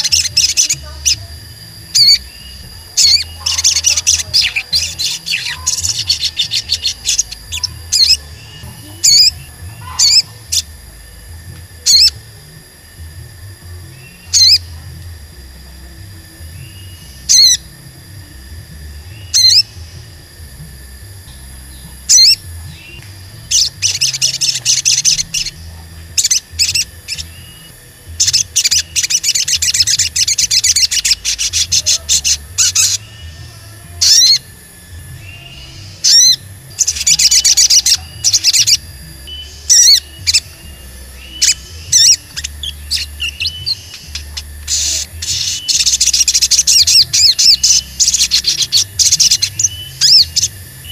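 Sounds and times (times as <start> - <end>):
fast high bird twittering: 0.0 - 10.9, 11.8 - 12.2, 13.9 - 14.7, 16.6 - 17.7, 19.1 - 20.1, 21.4 - 50.9.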